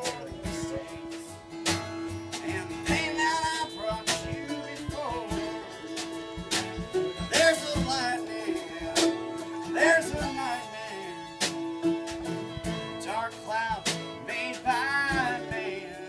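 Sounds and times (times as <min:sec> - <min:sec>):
drum kit: 0:00.0 - 0:16.0
fiddle: 0:00.0 - 0:16.0
mandolin: 0:00.0 - 0:16.0
strummed acoustic guitar: 0:00.0 - 0:16.0.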